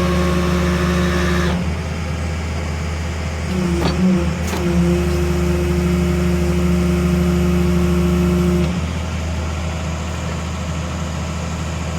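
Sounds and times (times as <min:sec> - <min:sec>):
excavator engine whining under load: 0:00.0 - 0:11.4.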